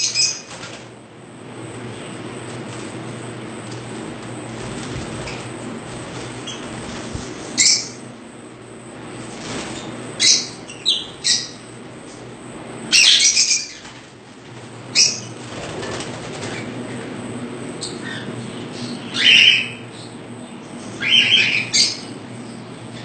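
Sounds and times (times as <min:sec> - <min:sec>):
caged birds calling: 0:00.0 - 0:01.0, 0:03.3 - 0:08.2, 0:09.2 - 0:23.0
steady low hum: 0:00.0 - 0:23.0.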